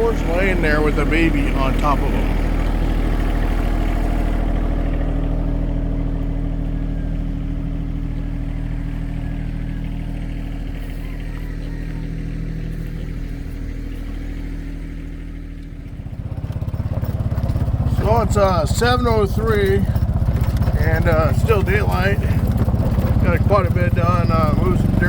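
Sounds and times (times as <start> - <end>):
engine running steadily: 0.0 - 25.0
fast pulsing engine: 0.0 - 25.0.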